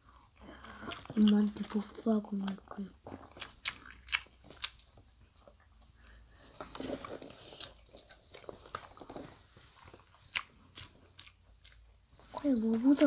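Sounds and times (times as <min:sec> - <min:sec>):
chewing fish cake: 0:00.0 - 0:13.0.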